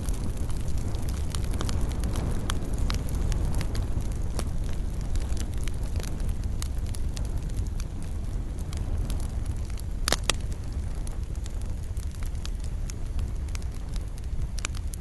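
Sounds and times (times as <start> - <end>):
campfire crackling: 0.0 - 15.0
fire popping: 0.0 - 15.0.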